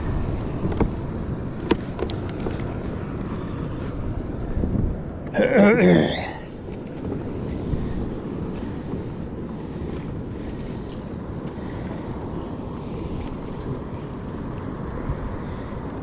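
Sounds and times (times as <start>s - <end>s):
wind rumble on microphone: 0.0s - 5.4s, 6.1s - 16.0s.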